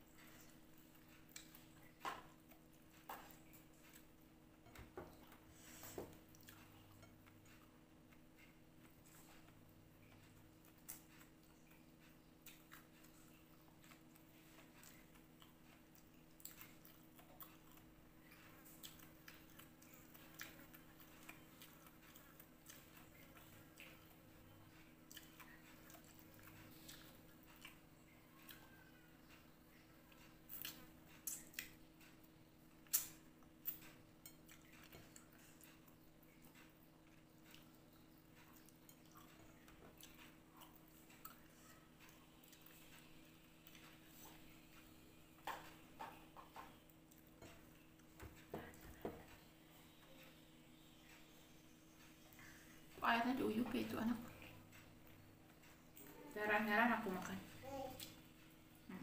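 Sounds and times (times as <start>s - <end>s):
low steady hum: 0.0s - 59.0s
quiet chewing: 0.0s - 59.0s.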